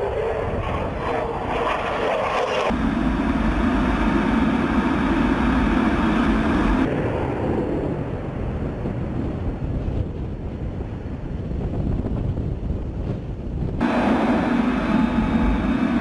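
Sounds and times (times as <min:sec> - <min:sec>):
jet engine noise: 0:00.0 - 0:16.0
low rumble of engine and rushing air: 0:00.0 - 0:16.0.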